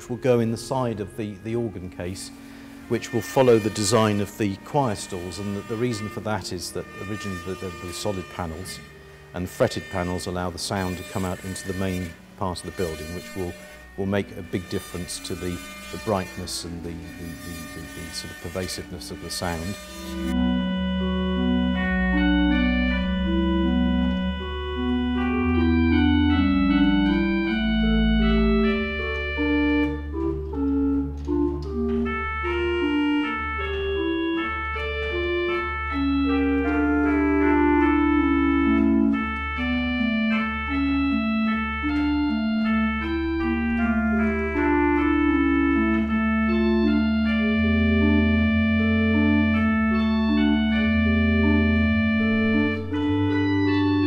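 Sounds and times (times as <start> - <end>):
pipe organ playing: 0.0 - 54.0.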